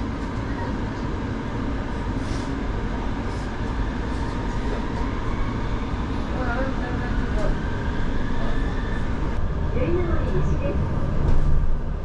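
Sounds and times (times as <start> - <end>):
tram running gear rumbling on rails: 0.0 - 12.0.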